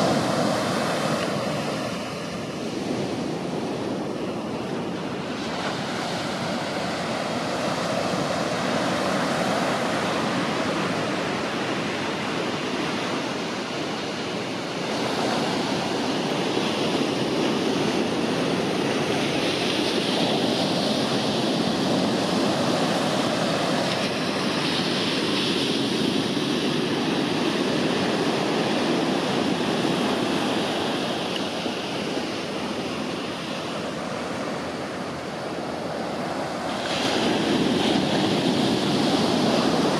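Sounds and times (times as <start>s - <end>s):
ocean surf breaking on sand: 0.0s - 39.9s.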